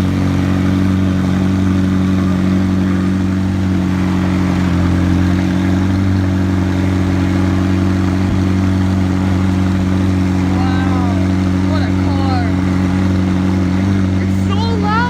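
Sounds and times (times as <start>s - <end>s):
sports car engine droning: 0.0s - 15.0s.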